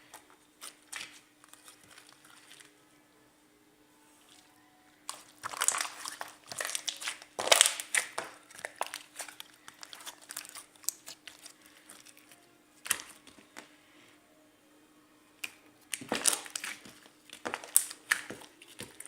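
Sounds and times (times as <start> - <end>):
crinkling handling noise: 0.0 - 2.8, 4.1 - 13.8, 15.4 - 19.0.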